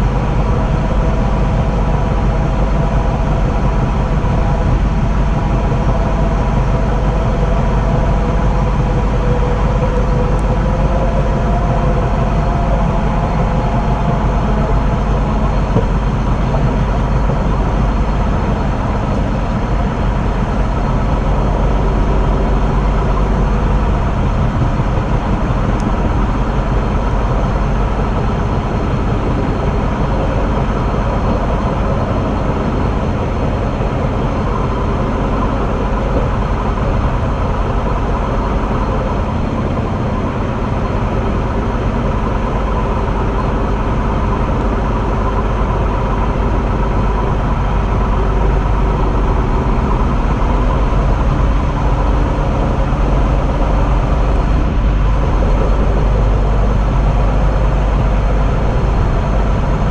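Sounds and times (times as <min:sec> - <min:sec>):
faint whining tones: 0:00.0 - 0:59.9
rushing air: 0:00.0 - 0:59.9
train wheels rumbling on rail: 0:00.0 - 0:59.9.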